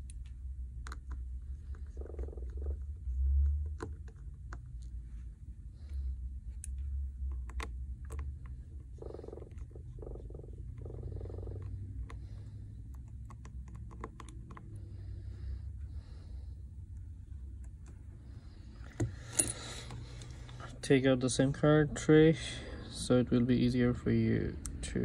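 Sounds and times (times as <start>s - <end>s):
low handling rumble: 1.3s - 25.0s.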